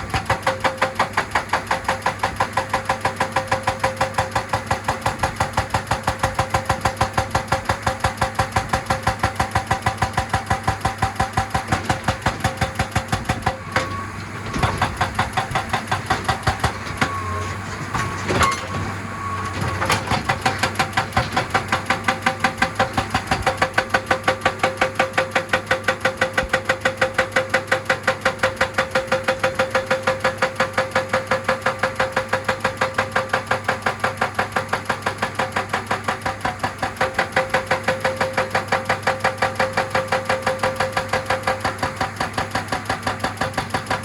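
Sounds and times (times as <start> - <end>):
diesel engine running: 0.0 - 44.0
hydraulic breaker hammering rock: 0.0 - 44.0.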